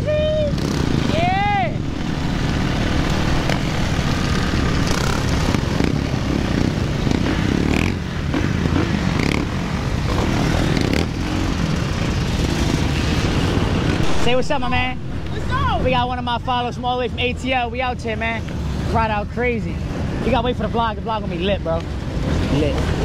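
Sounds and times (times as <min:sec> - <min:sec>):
dirt bikes revving: 0:00.0 - 0:23.0.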